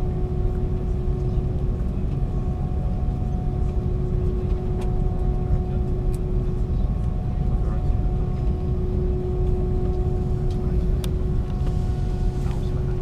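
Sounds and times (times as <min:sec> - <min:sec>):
aircraft cabin hum and whine: 0:00.0 - 0:13.0.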